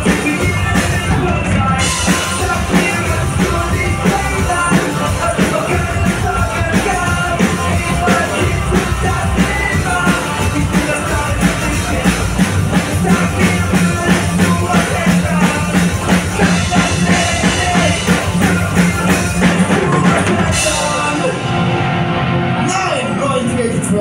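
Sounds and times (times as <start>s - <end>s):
person singing: 0.0s - 21.8s
drum kit beat: 0.0s - 23.6s
rock band playing live: 0.0s - 24.0s.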